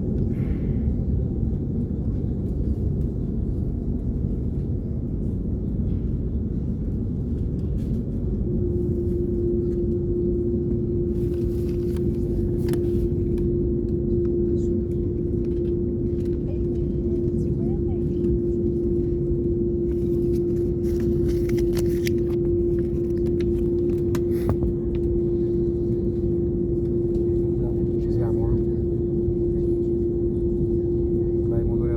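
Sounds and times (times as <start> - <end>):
airplane cabin rumble: 0.0 - 31.9
steady hum: 0.0 - 31.9.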